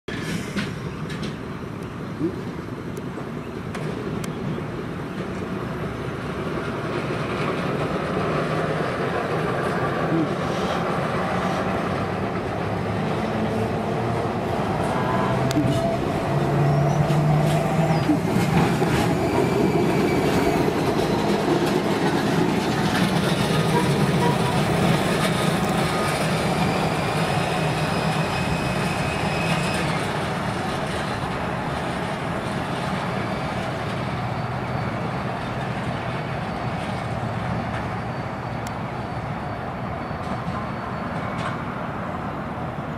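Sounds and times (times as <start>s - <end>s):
streetcar wheels rumbling on rails: 0.1s - 42.9s.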